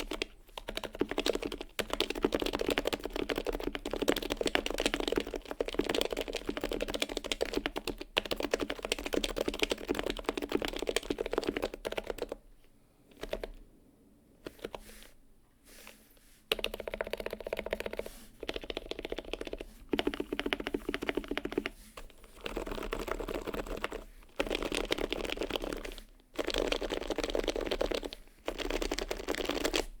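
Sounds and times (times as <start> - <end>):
rapid keyboard typing: 0.0 - 12.4, 13.1 - 13.6, 14.4 - 14.9, 16.5 - 30.0.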